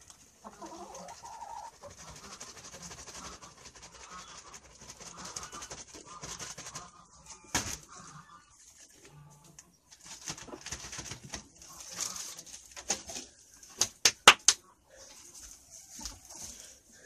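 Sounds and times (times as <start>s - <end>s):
farmyard birds: 0.0s - 17.0s.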